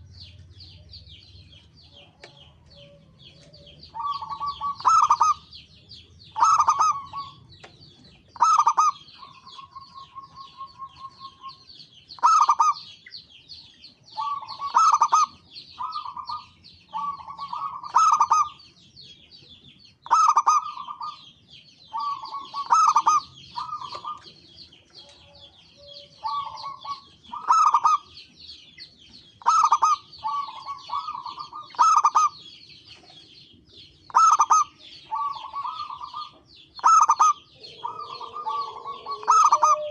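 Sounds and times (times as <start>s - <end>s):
dove cooing in rolling phrases: 0.0s - 7.6s, 8.4s - 13.0s, 14.1s - 18.8s, 20.1s - 28.2s, 29.4s - 32.6s, 34.0s - 39.9s
small birds twittering: 0.0s - 39.9s.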